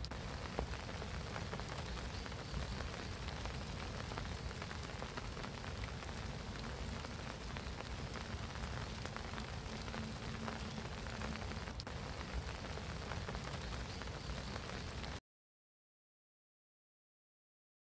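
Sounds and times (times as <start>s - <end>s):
rain pattering on pond water: 0.0s - 15.2s.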